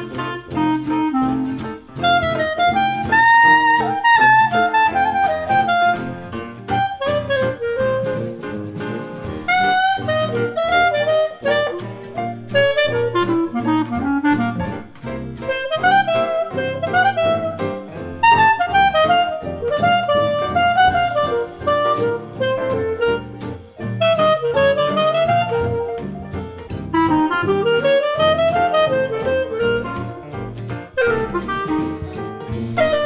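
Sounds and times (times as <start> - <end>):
jazz with reedy wind melody: 0.0 - 33.0.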